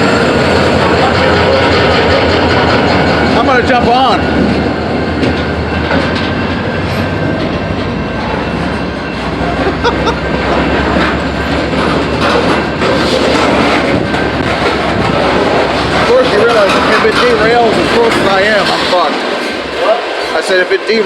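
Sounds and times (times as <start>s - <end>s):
freight train rumbling past: 0.0s - 21.0s
train wheels clattering over rails: 0.0s - 21.0s.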